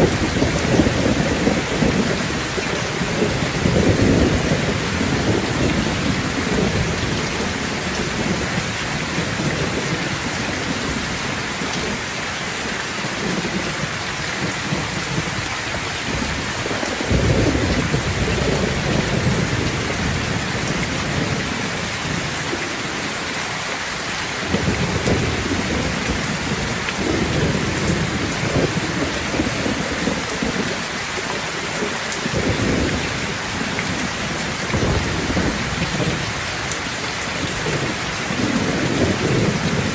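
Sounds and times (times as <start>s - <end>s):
thunder rumbling: 0.0s - 12.0s, 13.0s - 23.2s, 24.3s - 39.9s
heavy rain hissing: 0.0s - 39.9s.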